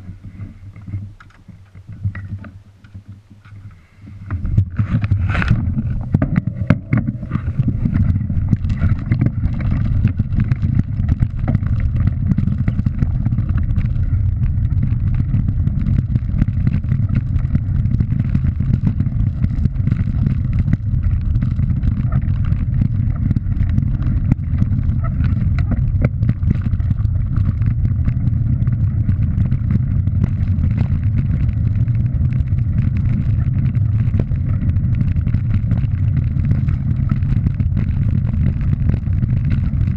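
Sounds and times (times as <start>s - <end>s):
wind buffeting microphone: 0.0s - 39.9s
tyres rumbling over gravel: 3.5s - 39.9s
stones clicking and rattling: 4.6s - 39.9s.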